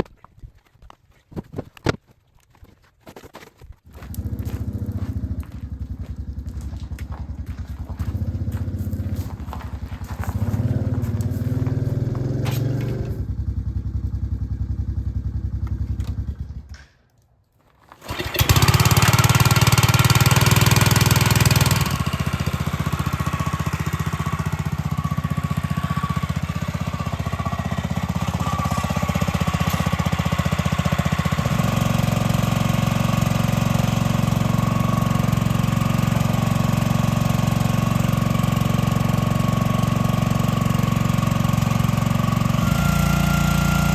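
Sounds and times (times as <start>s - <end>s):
engine running: 3.9s - 16.9s, 18.0s - 43.9s.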